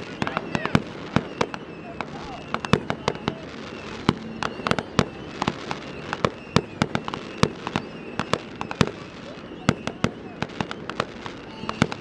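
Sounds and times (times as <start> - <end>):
fireworks bangs and booms: 0.0 - 12.0.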